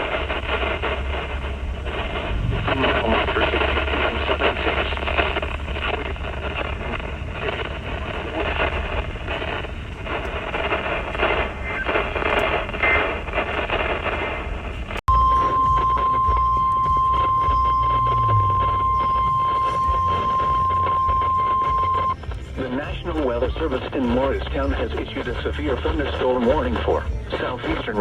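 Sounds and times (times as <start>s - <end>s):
low hum: 0.0s - 28.0s
radio static hiss and crackle: 0.0s - 28.0s.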